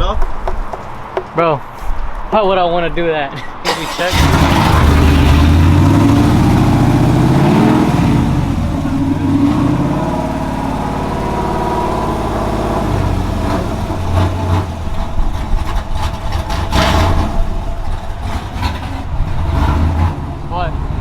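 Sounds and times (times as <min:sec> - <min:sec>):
truck engine running: 0:03.7 - 0:21.0.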